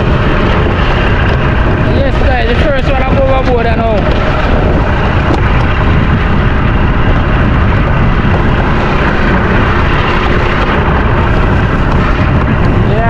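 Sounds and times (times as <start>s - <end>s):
small boat in rough sea: 0.0s - 13.0s
strong wind rumble: 0.0s - 13.0s.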